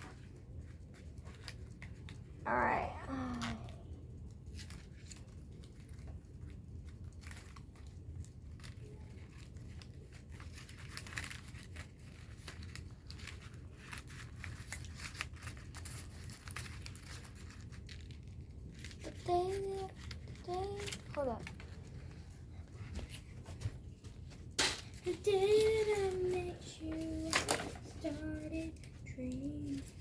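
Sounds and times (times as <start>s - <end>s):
paper crinkling and rustling: 0.0s - 2.4s, 4.2s - 30.0s
low steady hum: 0.0s - 30.0s.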